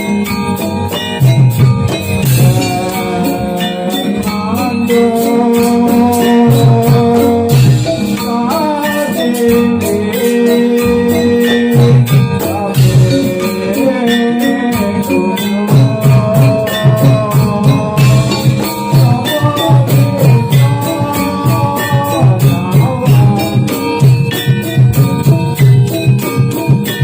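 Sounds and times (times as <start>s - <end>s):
drums beating: 0.0s - 27.0s
jingling percussion: 0.0s - 27.0s.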